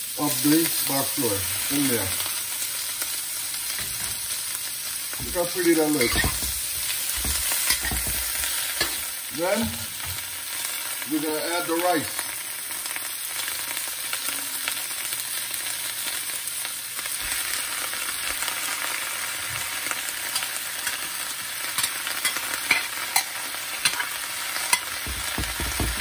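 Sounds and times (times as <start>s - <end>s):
vegetables sizzling in wok: 0.0s - 26.0s.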